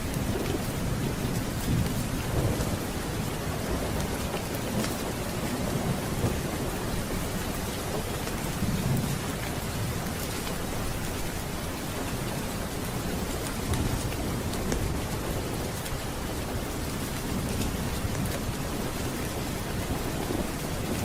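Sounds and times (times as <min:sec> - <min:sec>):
low rolling thunder: 0:00.0 - 0:21.0
steady rain: 0:00.0 - 0:21.0.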